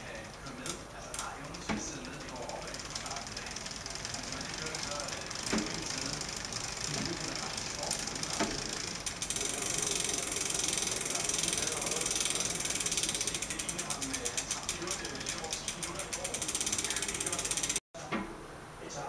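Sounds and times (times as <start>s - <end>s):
bicycle chain running over pulleys: 0.0s - 17.8s
freehub pawls ratcheting: 0.0s - 17.8s
chain clicks: 0.1s - 17.8s.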